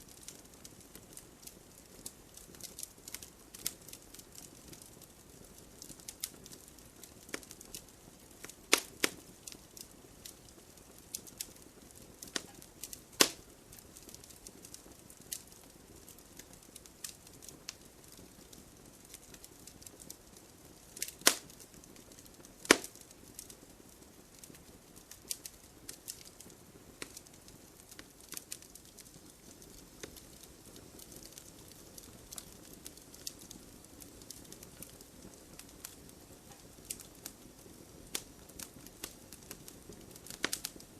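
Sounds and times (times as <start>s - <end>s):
campfire crackling: 0.0s - 40.9s
faint steady hiss: 0.0s - 40.9s
sharp fire pops: 5.8s - 20.2s, 20.9s - 23.6s, 24.3s - 40.9s.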